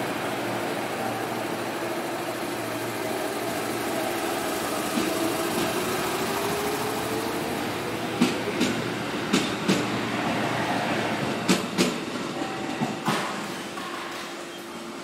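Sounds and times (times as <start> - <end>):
electric train rumbling past: 0.0 - 15.0.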